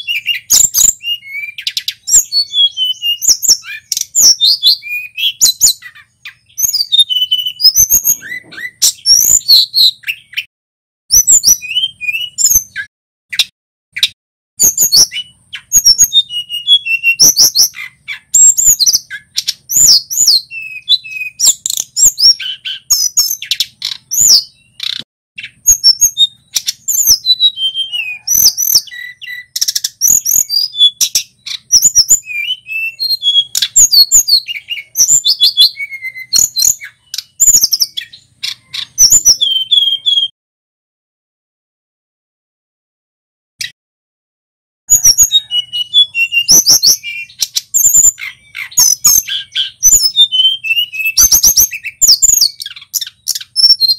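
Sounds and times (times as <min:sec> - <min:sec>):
bird singing whistles and trills: 0:00.0 - 0:10.5, 0:11.1 - 0:40.3, 0:44.9 - 0:53.9.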